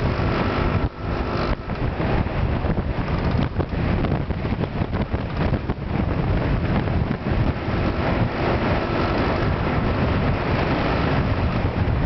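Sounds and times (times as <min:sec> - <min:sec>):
vehicle engine: 0:00.0 - 0:12.0
wind buffeting microphone: 0:00.0 - 0:12.0.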